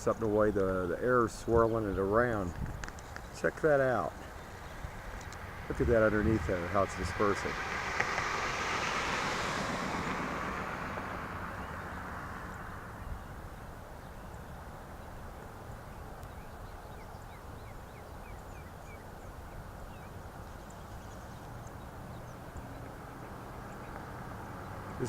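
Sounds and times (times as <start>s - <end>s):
small birds chirping: 0.0s - 7.5s, 10.8s - 25.0s.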